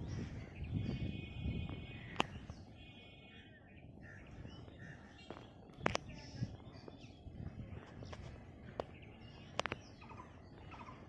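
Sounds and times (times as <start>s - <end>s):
bird calling: 0.0s - 7.3s, 7.9s - 11.0s.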